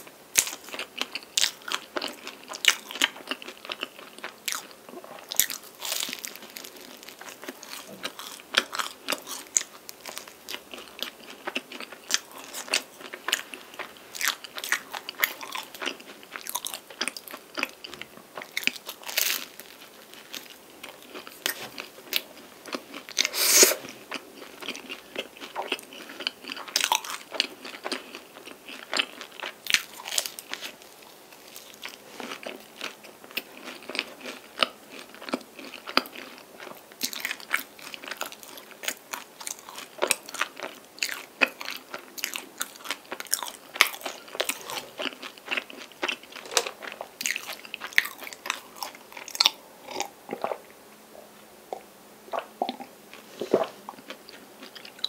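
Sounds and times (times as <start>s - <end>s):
close-miked eating and chewing: 0.0s - 55.0s.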